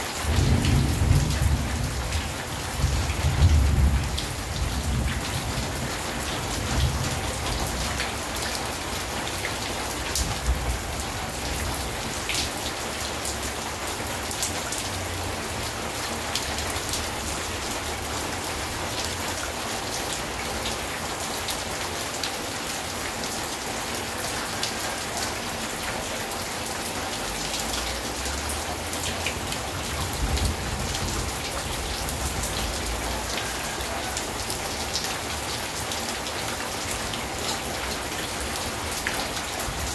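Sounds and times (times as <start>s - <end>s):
rain on metal roof: 0.0s - 39.9s.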